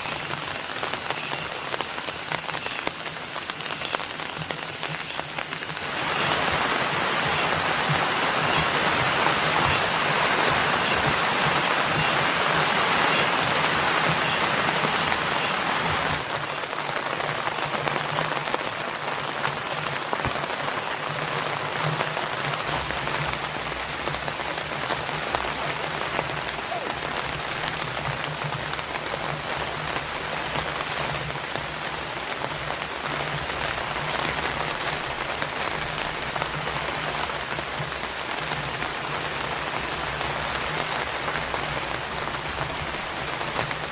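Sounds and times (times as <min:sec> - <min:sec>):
hiss: 0:00.0 - 0:43.9
rain pattering: 0:00.0 - 0:43.9.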